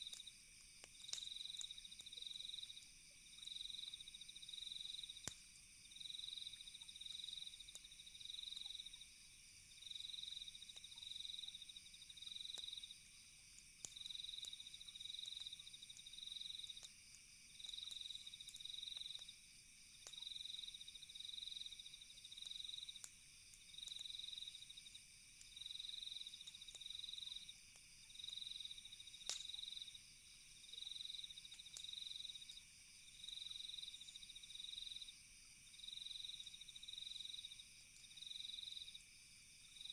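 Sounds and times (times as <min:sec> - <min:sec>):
campfire crackling pops: 0:00.0 - 0:03.8, 0:04.6 - 0:20.6, 0:22.2 - 0:35.0
cricket trilling: 0:00.0 - 0:39.9
insect hum: 0:00.0 - 0:39.9.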